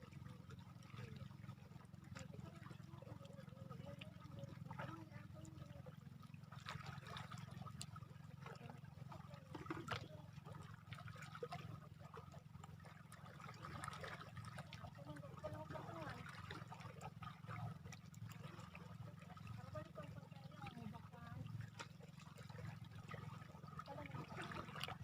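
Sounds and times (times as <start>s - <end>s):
small splashes: 0.0s - 25.0s
water trickling and lapping: 0.0s - 25.0s.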